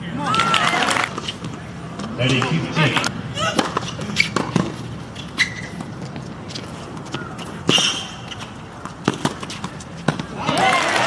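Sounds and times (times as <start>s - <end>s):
racquets striking tennis ball: 0.4s - 11.0s
tennis ball bouncing: 1.1s - 11.0s.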